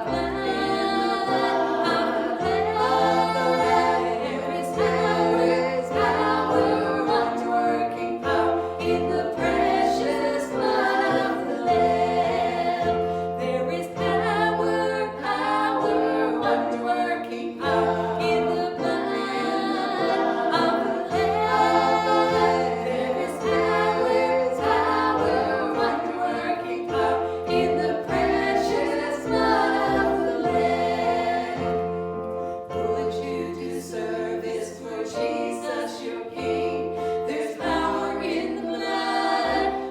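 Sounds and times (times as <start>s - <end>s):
group singing worship song: 0.0s - 39.9s.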